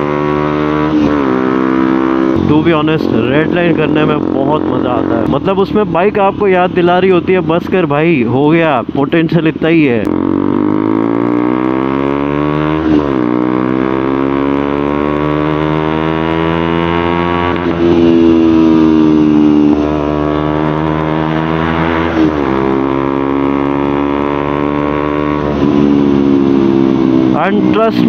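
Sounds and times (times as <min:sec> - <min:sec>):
motorcycle engine accelerating: 0:00.0 - 0:09.0, 0:09.9 - 0:28.0.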